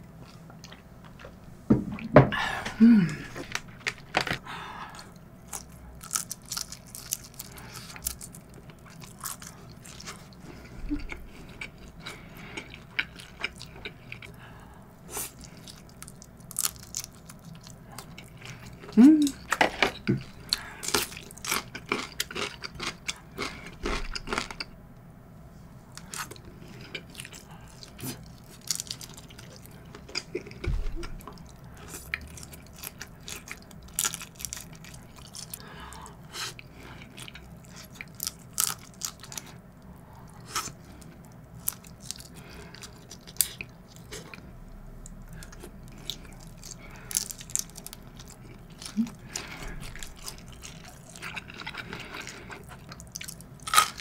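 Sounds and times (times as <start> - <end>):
person chewing: 3.0 - 24.7, 25.9 - 54.0.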